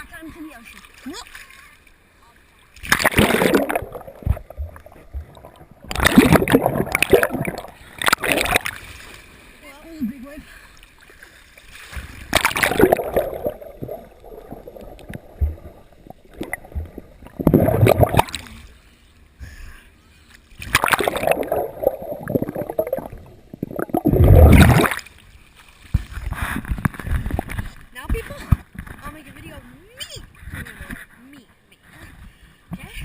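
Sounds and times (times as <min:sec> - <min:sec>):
seawater splashing and churning: 0:00.0 - 0:18.8, 0:20.5 - 0:28.4
water sloshing: 0:00.0 - 0:18.8, 0:20.5 - 0:29.7.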